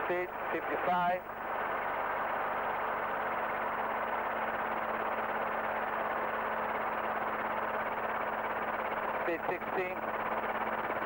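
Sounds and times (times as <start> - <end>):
helicopter engine and rotors: 0.0 - 11.0.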